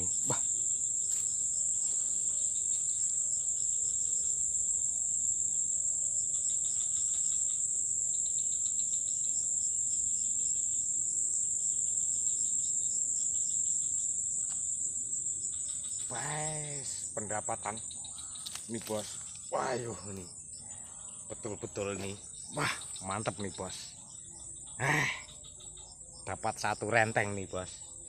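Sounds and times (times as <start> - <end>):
high-pitched insect trill: 0.0 - 28.0
rapid pulsing insect chirp: 0.0 - 28.0.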